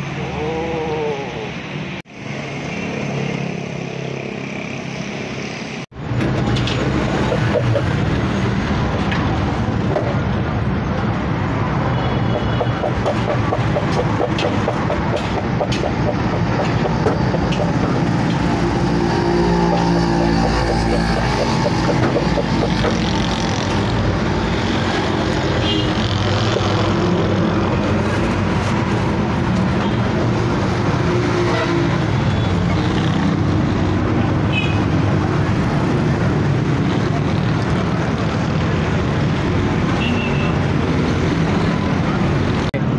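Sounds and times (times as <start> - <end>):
passing vehicle engines humming: 0.0 - 40.0
street traffic noise: 0.0 - 42.9.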